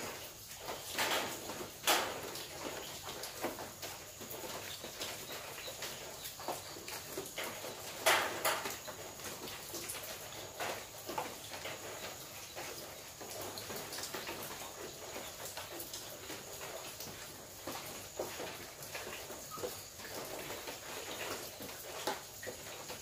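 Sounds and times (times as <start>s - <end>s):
rain on a metal roof: 0.0s - 23.0s.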